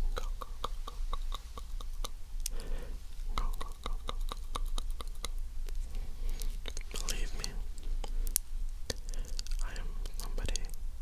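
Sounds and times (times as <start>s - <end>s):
wet tongue and lip clicks: 0.0s - 2.6s, 3.2s - 5.8s, 6.4s - 10.8s
soft breathy whisper: 0.0s - 10.8s.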